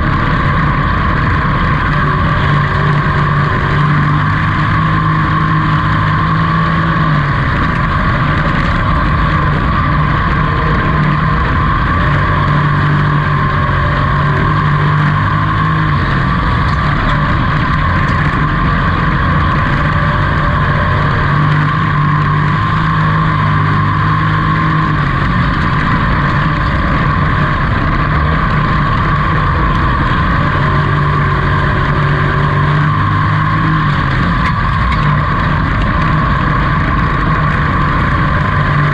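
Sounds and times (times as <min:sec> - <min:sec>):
race truck engine running hard: 0:00.0 - 0:38.9.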